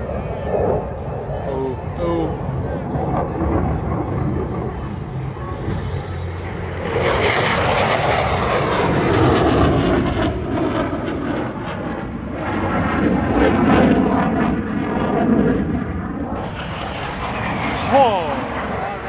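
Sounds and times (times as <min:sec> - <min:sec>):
fighter jet engine roar: 0:00.0 - 0:19.0.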